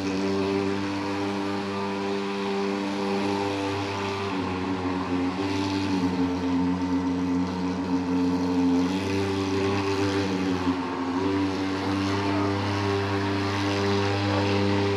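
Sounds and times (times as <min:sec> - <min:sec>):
fogging machine engine drone: 0:00.0 - 0:14.9.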